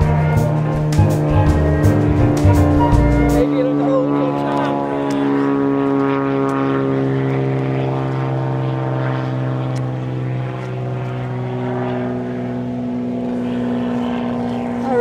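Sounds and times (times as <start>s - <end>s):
propeller airplane flying over: 0.0s - 15.0s.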